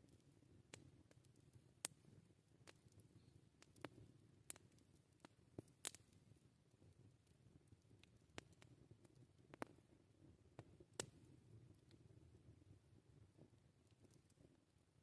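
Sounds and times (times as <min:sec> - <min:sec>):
campfire snapping and popping: 0:00.0 - 0:12.5, 0:13.1 - 0:14.6
flames rumbling softly: 0:00.0 - 0:15.0.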